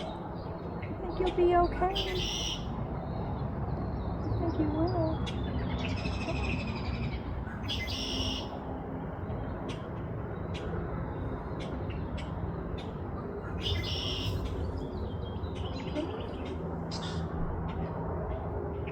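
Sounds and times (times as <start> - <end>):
steady low rumble: 0.0 - 7.8, 8.4 - 18.9.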